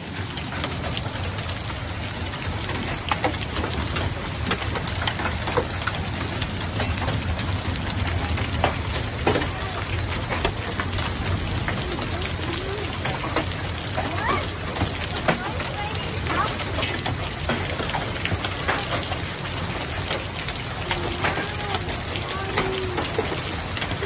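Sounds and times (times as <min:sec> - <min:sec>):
hailstones ticking on surfaces: 0:00.0 - 0:24.0
heavy rain falling: 0:00.0 - 0:24.0.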